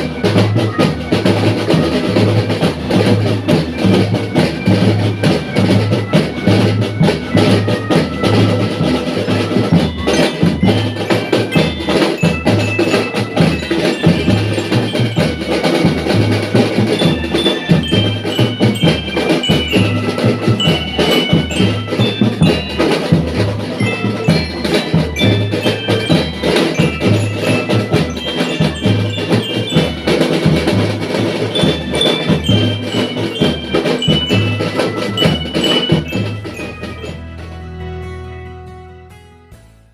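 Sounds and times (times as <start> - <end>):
marching drums beat: 0.0 - 37.6
glockenspiel melody: 0.0 - 39.7.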